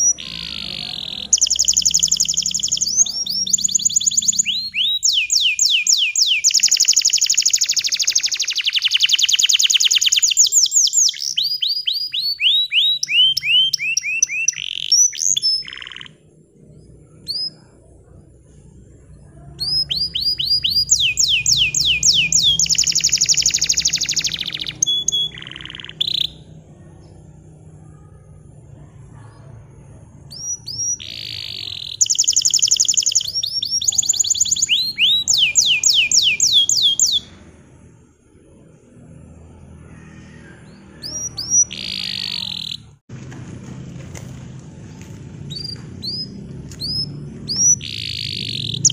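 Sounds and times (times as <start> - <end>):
canary singing fast trills: 0.0 - 27.6, 30.2 - 37.5, 40.0 - 43.0, 45.4 - 48.9.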